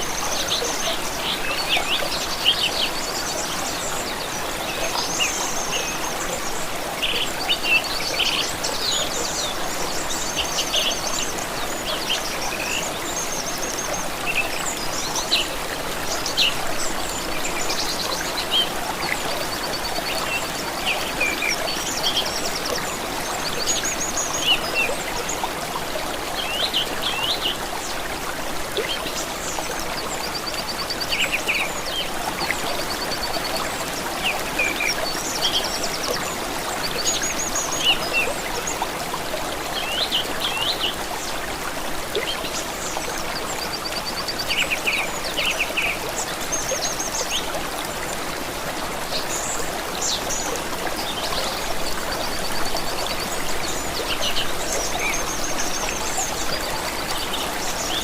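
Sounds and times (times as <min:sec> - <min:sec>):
small stream trickling: 0:00.0 - 0:58.0.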